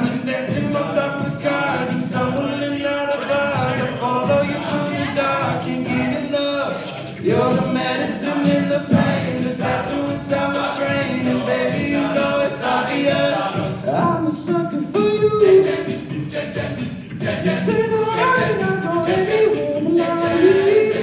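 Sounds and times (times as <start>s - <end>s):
beatboxing: 0.0s - 21.0s
male group singing in harmony: 0.0s - 21.0s.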